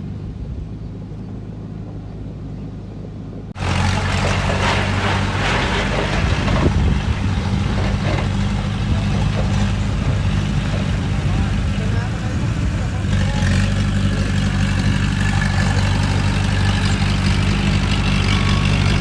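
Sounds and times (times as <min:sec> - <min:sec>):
diesel engine running: 0:00.0 - 0:19.0
rumble and clatter: 0:00.0 - 0:19.0.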